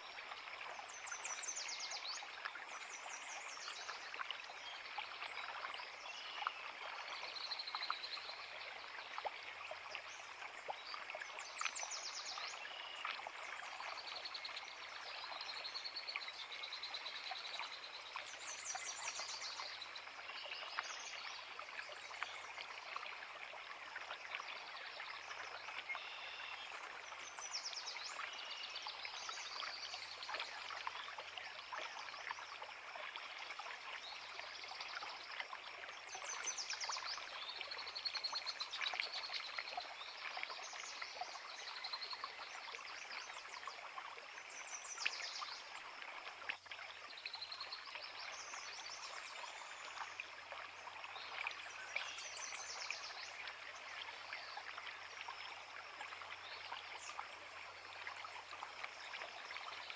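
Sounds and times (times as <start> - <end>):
creek burbling over rocks: 0.0 - 59.9.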